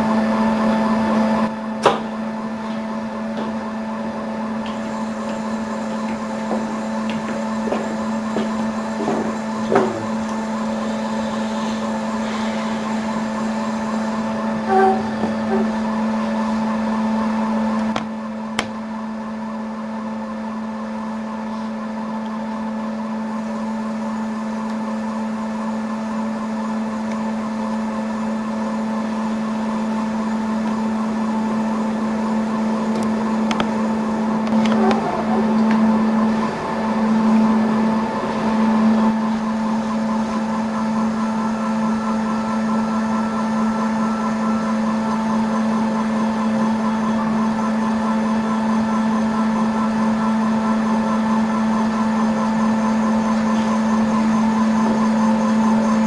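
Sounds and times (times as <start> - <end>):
milling machine humming and whining: 0.0 - 56.0.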